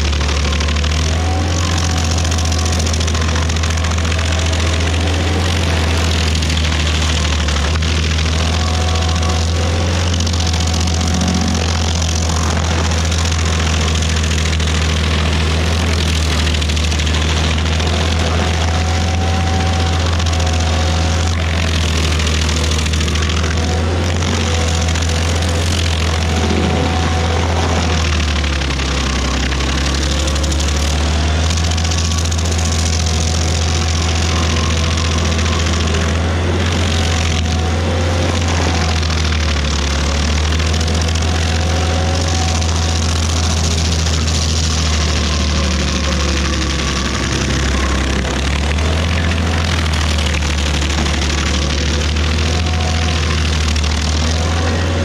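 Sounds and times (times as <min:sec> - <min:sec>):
cutter wheel grinding wood: 0:00.0 - 0:55.0
stump grinder engine under load: 0:00.0 - 0:55.0.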